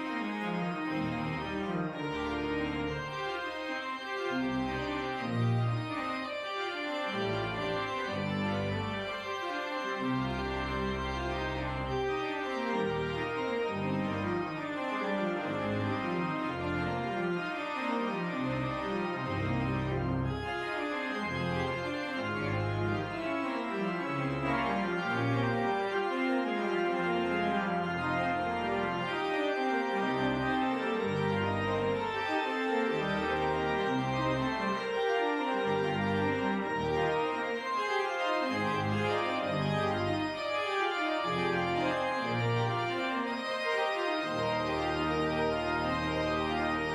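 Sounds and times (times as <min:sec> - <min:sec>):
organ playing chords: 0:00.0 - 0:46.9.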